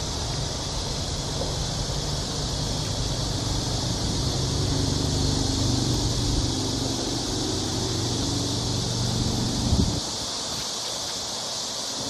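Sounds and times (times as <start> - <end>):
low engine hum: 0.0 - 10.3
cicadas chorus: 0.0 - 12.0.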